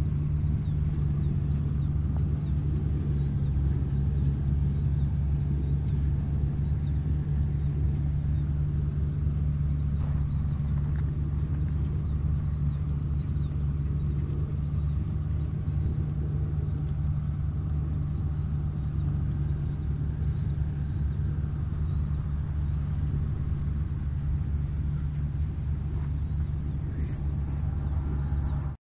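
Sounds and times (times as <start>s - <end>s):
faint chirps: 0.0s - 28.8s
tractor engine droning: 0.0s - 28.8s
insect trilling: 0.1s - 28.8s.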